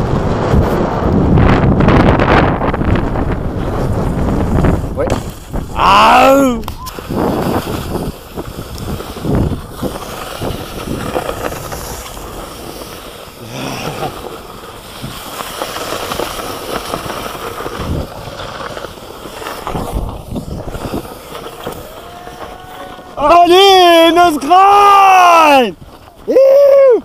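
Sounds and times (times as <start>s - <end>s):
board scraping over snow: 0.0s - 27.0s.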